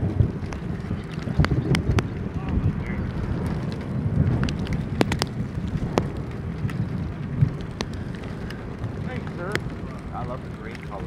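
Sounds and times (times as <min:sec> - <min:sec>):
storm wind on microphone: 0:00.0 - 0:11.0
sharp ticks: 0:00.4 - 0:11.0.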